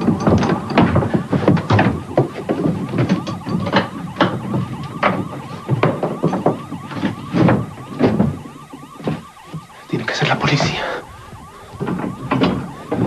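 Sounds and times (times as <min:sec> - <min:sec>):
heavy thuds: 0:00.0 - 0:13.0
police siren yelping: 0:00.0 - 0:13.0.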